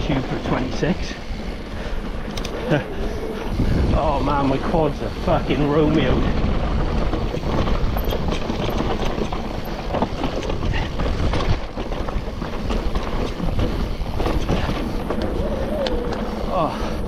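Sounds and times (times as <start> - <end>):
bike knocking and rattling: 0.0 - 17.0
bike tyres on loose rock: 0.0 - 17.0
wind on microphone: 1.0 - 17.0.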